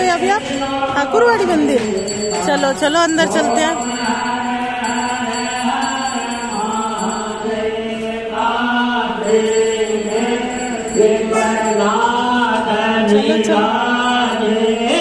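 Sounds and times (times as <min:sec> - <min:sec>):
devotional chant sung to music: 0:00.0 - 0:15.0.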